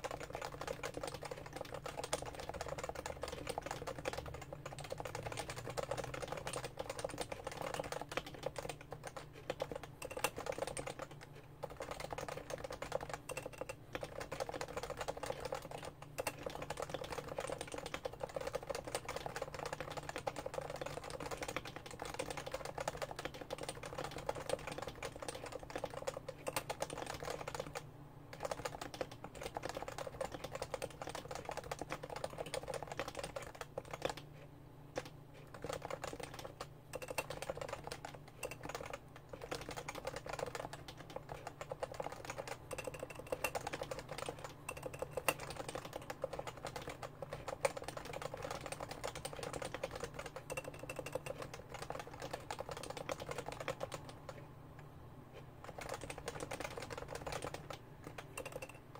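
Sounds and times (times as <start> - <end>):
keyboard typing: 0.0 - 58.9.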